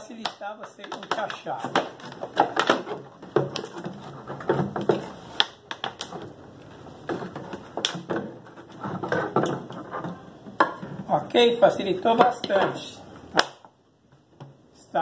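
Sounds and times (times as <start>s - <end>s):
plastic jug crackling: 0.0s - 13.7s.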